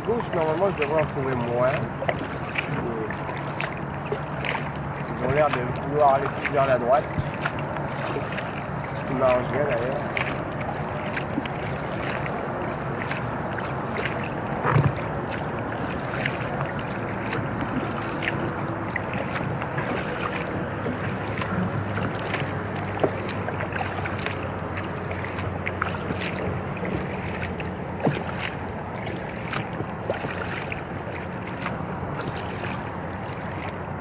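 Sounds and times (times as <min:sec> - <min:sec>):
highway traffic hum: 0:00.0 - 0:34.0
paddle splashes: 0:00.0 - 0:34.0
water lapping against hull: 0:00.0 - 0:34.0.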